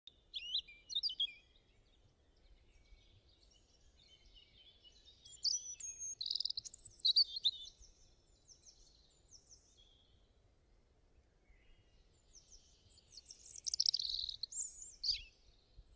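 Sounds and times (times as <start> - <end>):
songbirds chirping and singing: 0.1 - 10.1, 11.5 - 15.9.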